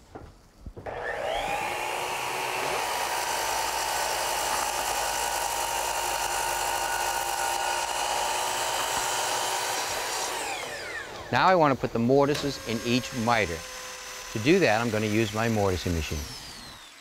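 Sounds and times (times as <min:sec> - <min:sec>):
electric miter saw whine: 0:00.8 - 0:17.0.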